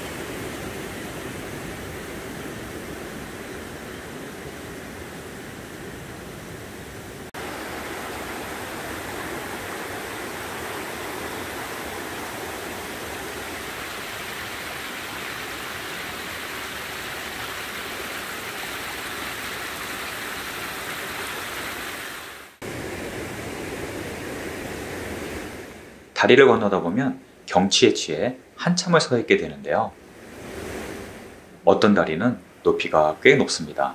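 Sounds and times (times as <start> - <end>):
stream rushing over boulders: 0.0 - 29.0.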